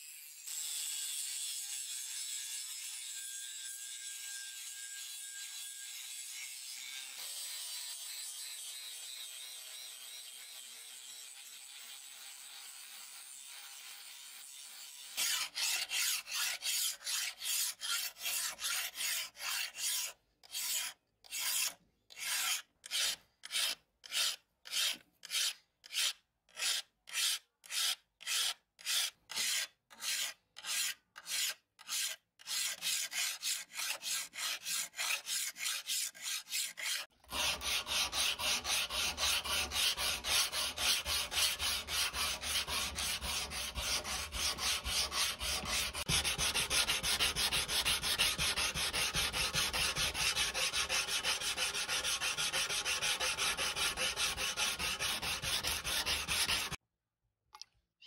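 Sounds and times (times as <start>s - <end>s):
sanding strokes on blade: 0.5s - 56.8s
file rasping on steel blade: 3.7s - 56.8s.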